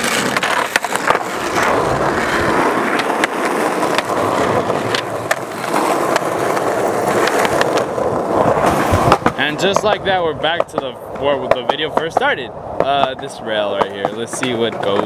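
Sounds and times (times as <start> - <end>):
skateboard wheels rolling on asphalt: 0.0 - 15.0.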